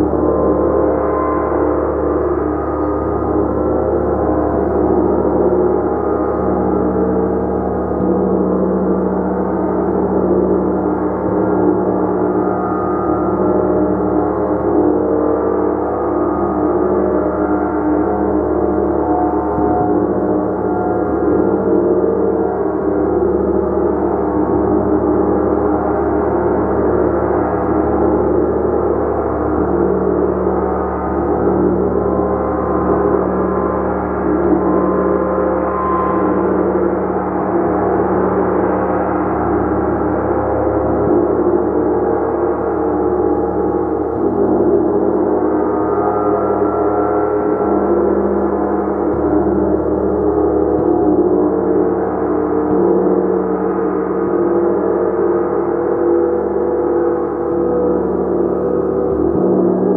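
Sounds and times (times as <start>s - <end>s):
gong sustained tones: 0.0s - 59.9s.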